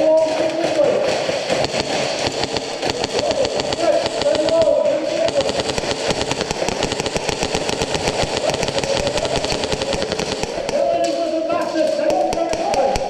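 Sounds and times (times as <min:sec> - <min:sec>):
airsoft guns firing full auto: 0:00.0 - 0:13.0.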